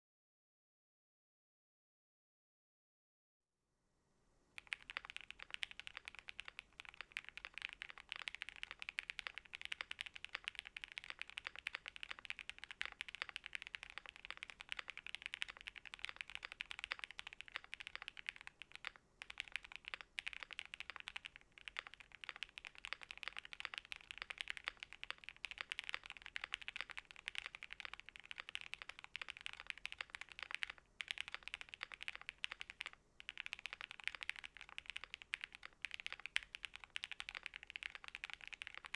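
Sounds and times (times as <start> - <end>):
mechanical keyboard typing: 4.6 - 38.9.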